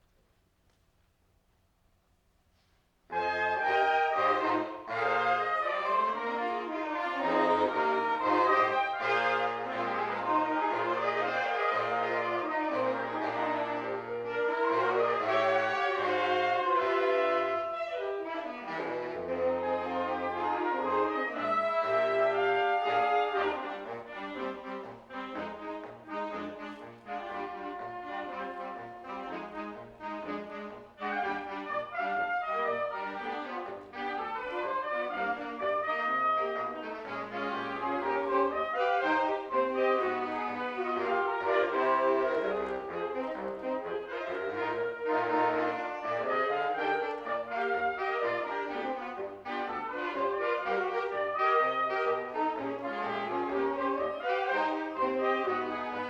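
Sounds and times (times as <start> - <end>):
brass ensemble playing: 3.1 - 56.0.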